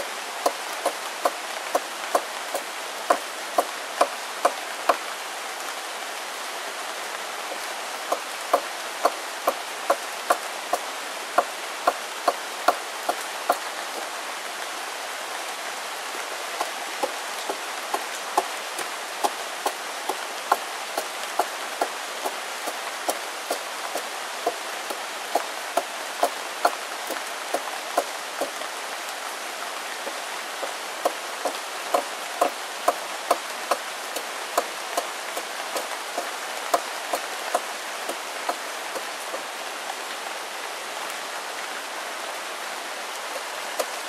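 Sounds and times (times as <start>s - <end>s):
rain hiss: 0.0s - 44.0s.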